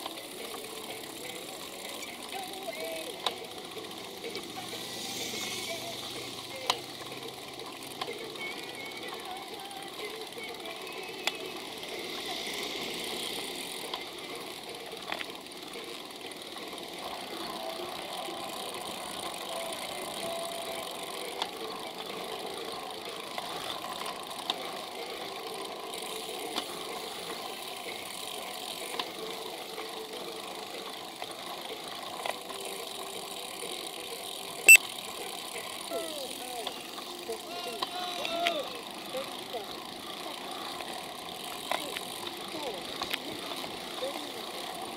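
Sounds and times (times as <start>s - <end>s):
bicycle road and wind noise: 0.0s - 44.9s.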